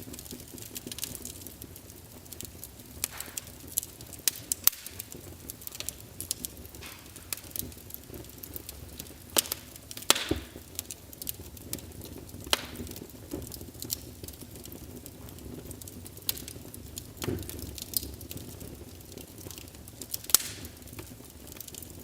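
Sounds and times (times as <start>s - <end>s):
burning logs crackling: 0.0s - 22.0s
low rumble of flames: 0.0s - 22.0s.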